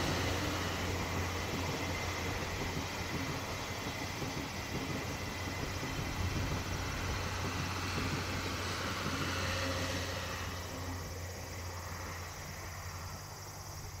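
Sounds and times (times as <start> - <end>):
passing train rumble: 0.0 - 14.0.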